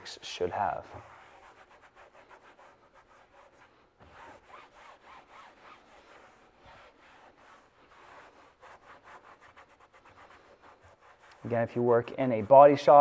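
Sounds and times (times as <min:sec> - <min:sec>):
towel wiping plastic cover: 0:00.0 - 0:13.0.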